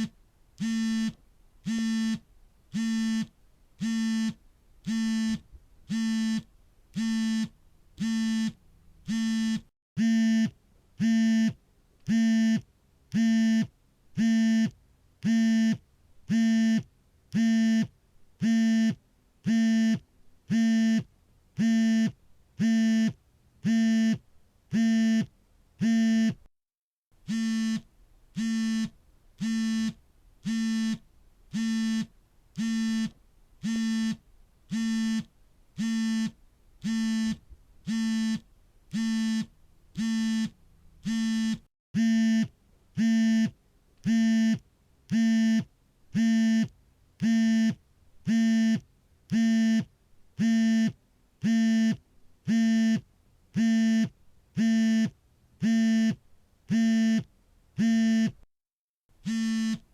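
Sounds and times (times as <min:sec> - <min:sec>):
phone vibrating buzz: 0:00.0 - 0:26.5, 0:27.2 - 0:58.4, 0:59.2 - 0:59.9.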